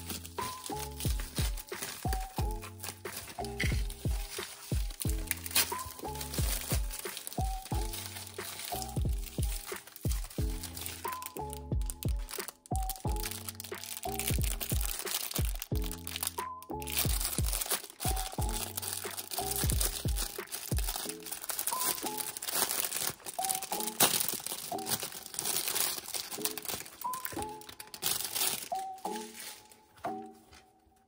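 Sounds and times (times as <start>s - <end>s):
packaging crinkling: 0.0s - 30.7s
soft lo-fi music: 0.0s - 31.0s.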